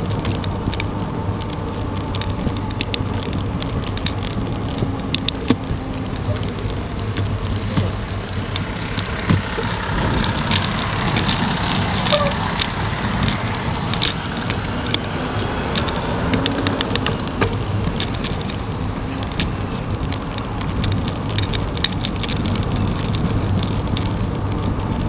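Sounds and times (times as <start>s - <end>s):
bicycle clicks and rattles: 0.0s - 25.0s
wind and tyres on asphalt: 0.0s - 25.0s.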